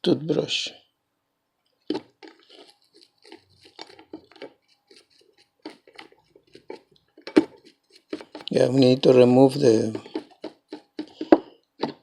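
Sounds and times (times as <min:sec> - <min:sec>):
toothbrush scrubbing circuit board: 0:01.8 - 0:12.0.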